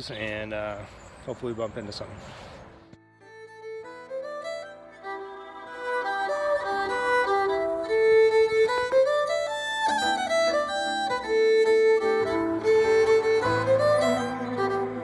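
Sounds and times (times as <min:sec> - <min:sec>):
fiddle melody: 0:02.9 - 0:15.0.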